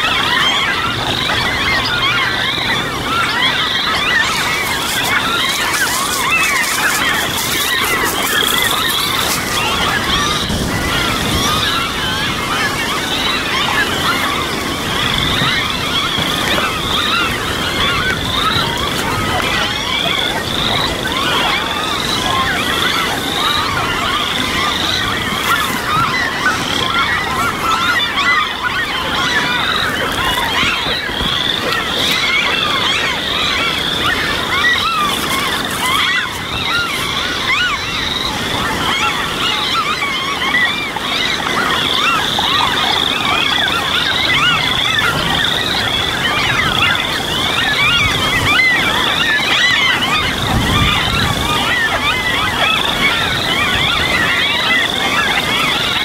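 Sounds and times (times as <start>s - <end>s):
birds chirping: 0.0s - 56.0s
frogs calling: 0.0s - 56.0s.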